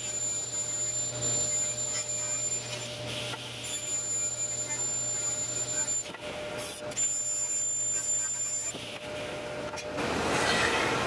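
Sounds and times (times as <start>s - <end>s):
saw cutting wood: 0.0s - 9.0s
table saw humming and whining: 0.0s - 11.0s.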